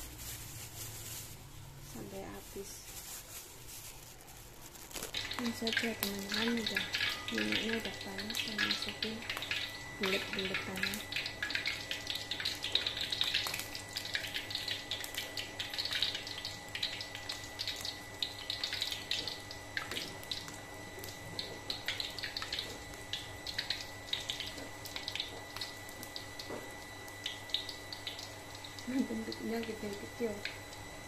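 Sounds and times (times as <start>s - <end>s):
food frying in hot oil: 4.2s - 31.0s.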